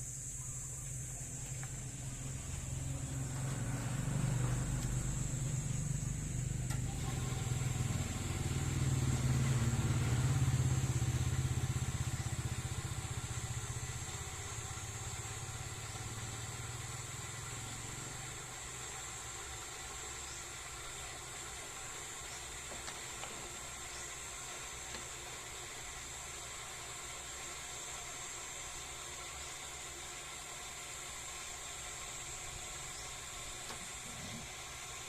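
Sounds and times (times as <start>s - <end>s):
faint high-pitched whine: 0.0s - 35.0s
low engine hum: 0.0s - 35.0s.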